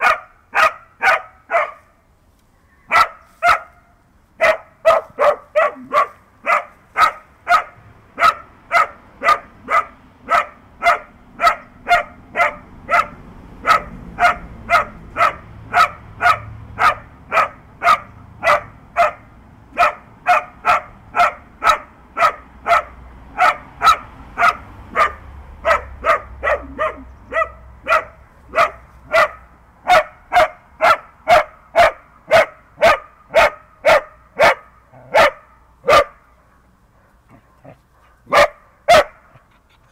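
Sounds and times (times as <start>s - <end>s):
dog barking: 0.0s - 1.9s, 2.9s - 39.4s.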